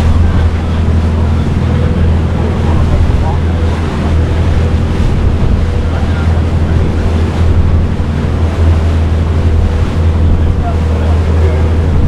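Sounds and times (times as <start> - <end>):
boat engine drone: 0.0 - 12.0
water rushing past hull: 0.0 - 12.0
wind buffeting microphone: 0.0 - 12.0.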